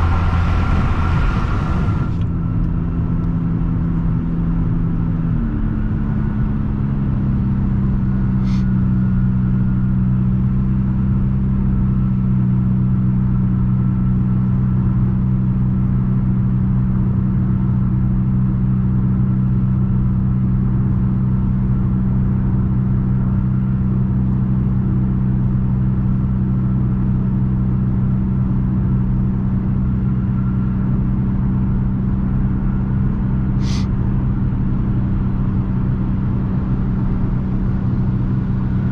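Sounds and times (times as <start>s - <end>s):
car exhaust droning: 0.0s - 38.9s.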